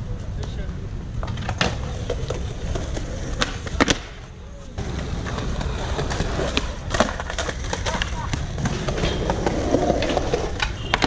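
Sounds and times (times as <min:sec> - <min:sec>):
skateboard rolling on concrete: 0:00.0 - 0:11.0
skateboard clacking on ground: 0:00.1 - 0:11.0.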